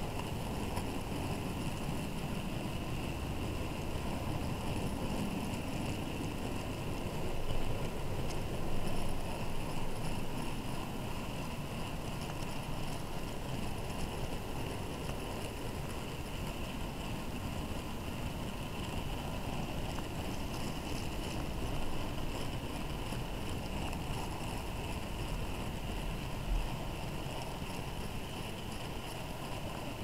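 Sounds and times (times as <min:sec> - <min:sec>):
constant hiss: 0:00.0 - 0:30.0
model train wagons rumbling: 0:00.0 - 0:30.0.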